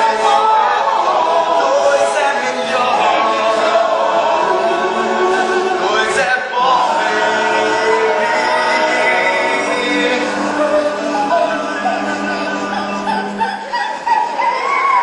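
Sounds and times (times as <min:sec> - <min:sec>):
several voices singing together: 0:00.0 - 0:15.0.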